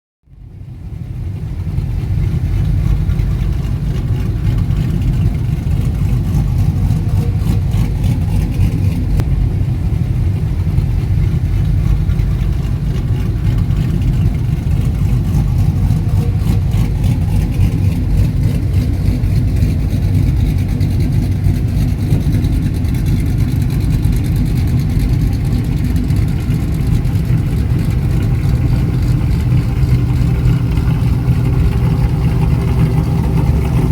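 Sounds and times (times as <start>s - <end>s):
truck engines rumbling: 0.3s - 33.9s.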